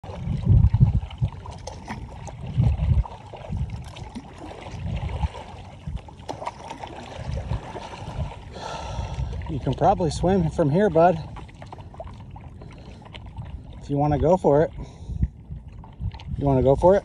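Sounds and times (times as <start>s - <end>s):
paddle strokes through water: 0.0s - 17.0s
water lapping against board: 0.0s - 17.0s
wind buffeting microphone: 0.0s - 17.0s.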